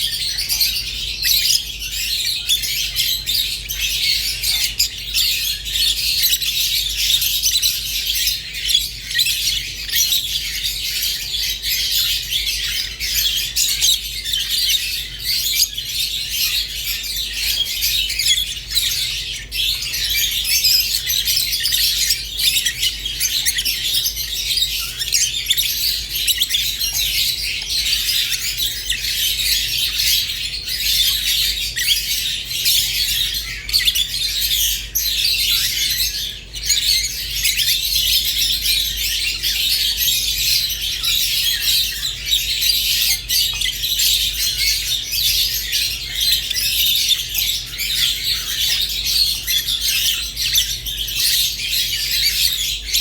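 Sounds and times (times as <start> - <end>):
small parrots chirping and squawking: 0.0 - 53.0.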